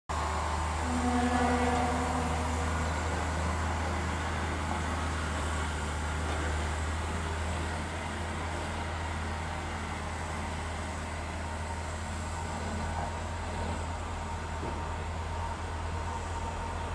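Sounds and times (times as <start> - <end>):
distant diesel locomotive drone: 0.1 - 16.9.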